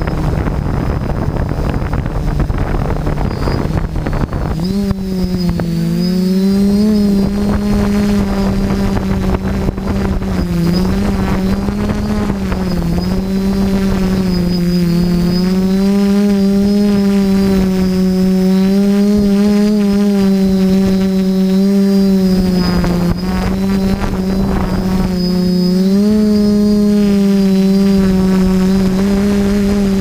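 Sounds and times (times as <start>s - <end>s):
model aircraft motor hum: 0.0s - 30.0s
wind rush: 0.0s - 30.0s.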